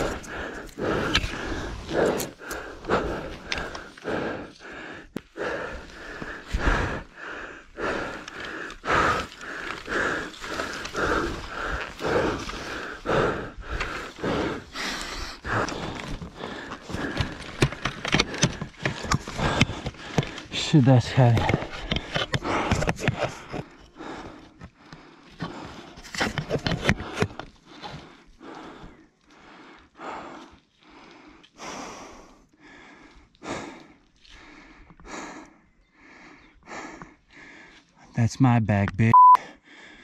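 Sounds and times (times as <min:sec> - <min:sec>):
man breathing hard: 0:00.0 - 0:20.5, 0:21.5 - 0:26.1, 0:26.7 - 0:38.1, 0:39.4 - 0:40.0.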